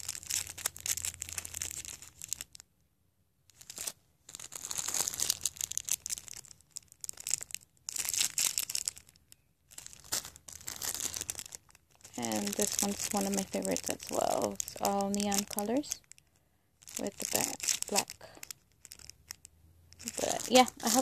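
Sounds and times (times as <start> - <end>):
plastic bags crinkling: 0.0 - 2.6, 3.5 - 21.0.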